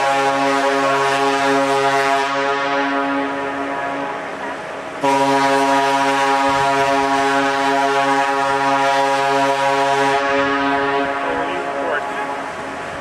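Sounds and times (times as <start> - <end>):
ship's horn blast: 0.0 - 13.0.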